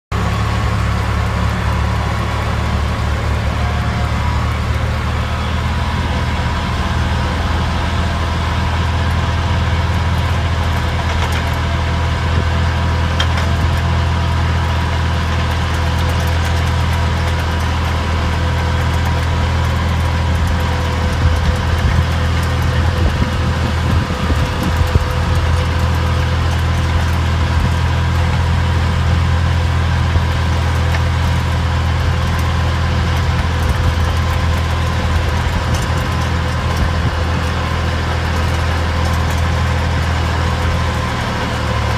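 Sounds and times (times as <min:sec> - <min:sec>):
tractor engine running under load: 0:00.1 - 0:41.9.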